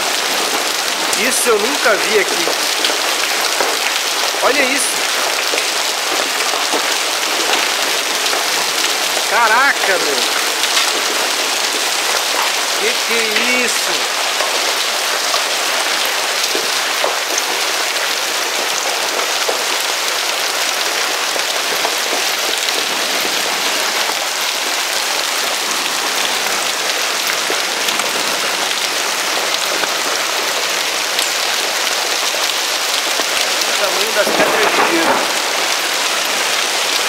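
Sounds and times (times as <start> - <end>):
hailstones pelting down: 0.0 - 37.0
rain: 0.0 - 37.0.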